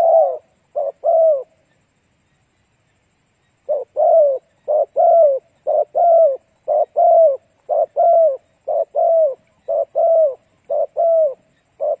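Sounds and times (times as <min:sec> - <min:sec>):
dove cooing: 0:00.0 - 0:01.7, 0:03.6 - 0:12.0.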